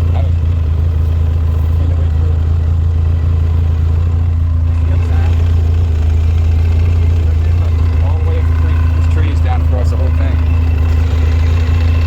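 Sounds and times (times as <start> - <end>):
atv engine droning: 0.0 - 12.0.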